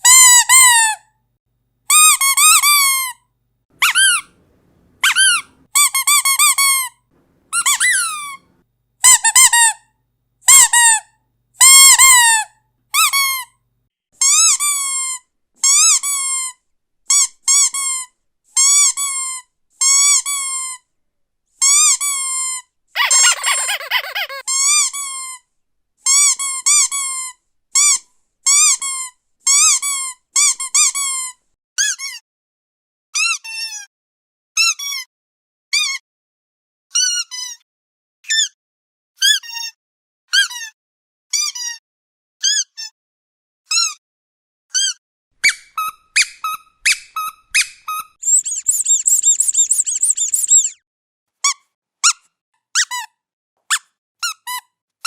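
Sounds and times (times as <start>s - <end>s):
squeaky dog toy squeaking: 0.0s - 1.1s, 1.9s - 13.6s, 14.2s - 20.9s, 21.6s - 32.2s, 33.2s - 33.9s, 34.6s - 35.1s, 35.7s - 36.0s, 36.9s - 37.6s, 38.2s - 38.6s, 39.2s - 41.8s, 42.4s - 43.0s, 43.7s - 44.0s, 44.7s - 50.8s, 51.4s - 54.7s.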